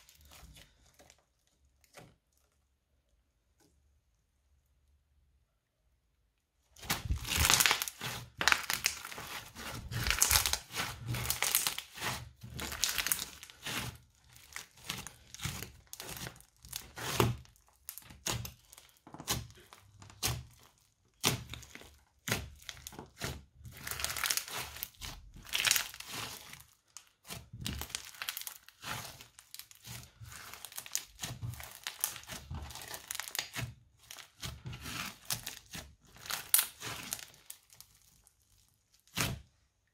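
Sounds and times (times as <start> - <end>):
crunchy slime crackling and clicking: 6.8 - 39.5.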